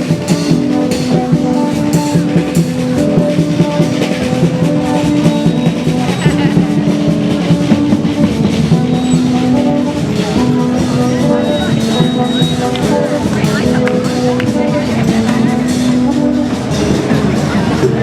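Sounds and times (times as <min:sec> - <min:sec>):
busy drumming: 0:00.0 - 0:18.0.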